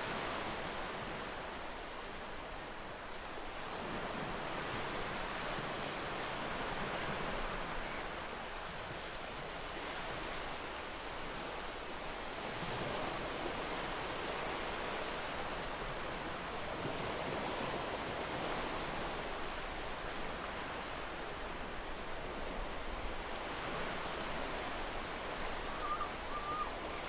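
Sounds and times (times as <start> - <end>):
waves washing up a beach: 0.0 - 27.0.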